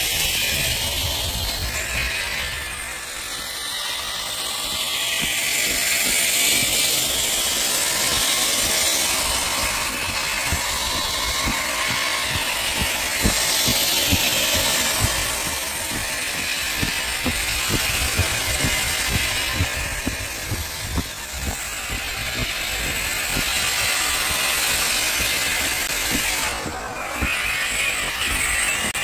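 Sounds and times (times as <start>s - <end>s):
electric motor whirring: 0.0s - 29.0s
chassis and tyres knocking: 5.2s - 29.0s.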